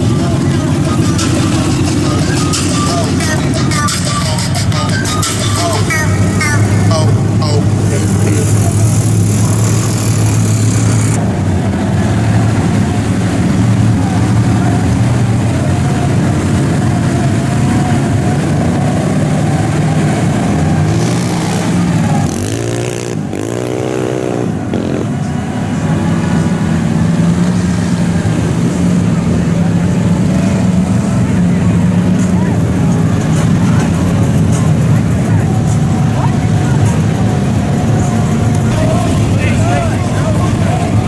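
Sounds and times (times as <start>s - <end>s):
vehicle engine revving: 0.0s - 41.0s.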